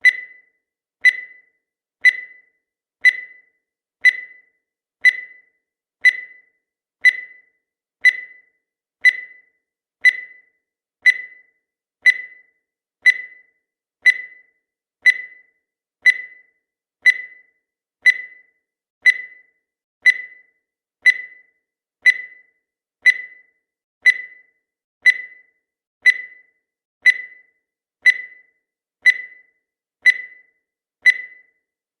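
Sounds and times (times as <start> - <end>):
high-pitched electronic ticks: 0.0 - 31.7.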